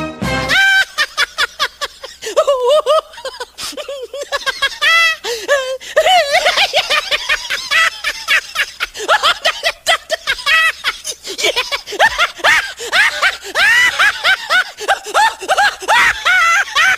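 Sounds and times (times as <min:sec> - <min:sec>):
squeaky snickering laughter: 0:00.6 - 0:16.9.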